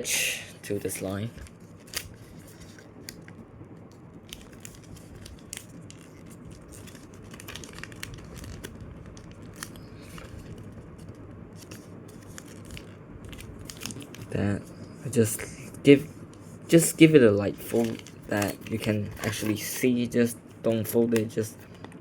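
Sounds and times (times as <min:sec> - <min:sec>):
paper crackles: 0:00.8 - 0:14.9, 0:15.8 - 0:19.9
paper rustling and crinkling: 0:00.8 - 0:14.9, 0:15.9 - 0:19.9.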